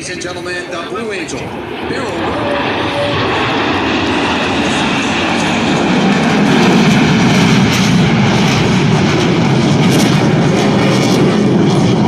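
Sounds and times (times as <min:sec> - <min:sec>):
jet noise: 0:00.0 - 0:12.0.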